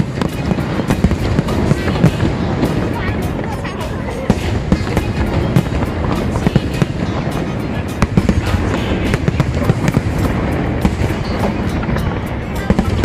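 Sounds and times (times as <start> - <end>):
fireworks cracks and bangs: 0.0 - 13.0
low rumble of fireworks: 0.0 - 13.0.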